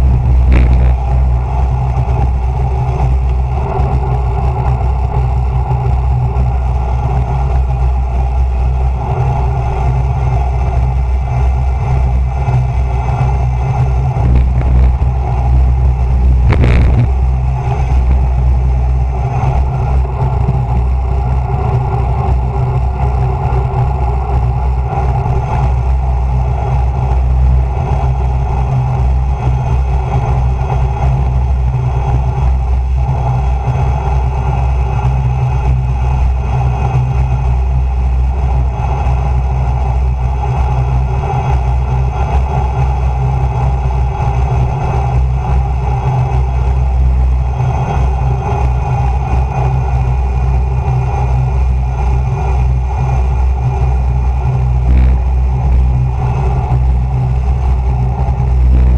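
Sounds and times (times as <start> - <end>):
tyres humming on asphalt: 0.0 - 58.9
wind rushing over microphone: 0.0 - 58.9.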